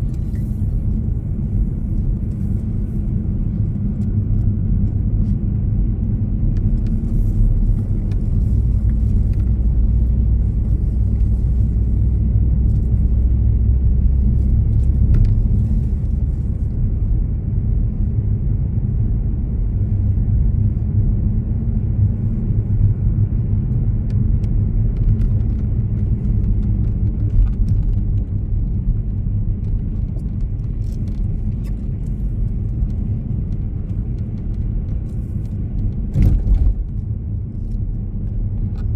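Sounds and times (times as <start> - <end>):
vehicle rumble from inside: 0.0 - 38.9.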